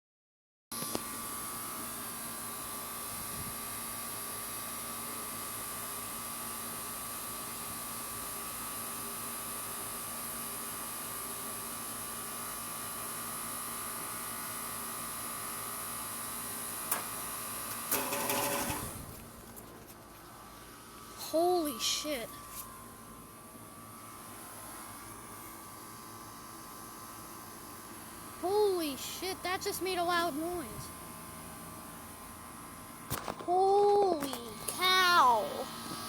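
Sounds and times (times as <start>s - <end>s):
air conditioner hum and whine: 0.8s - 36.0s.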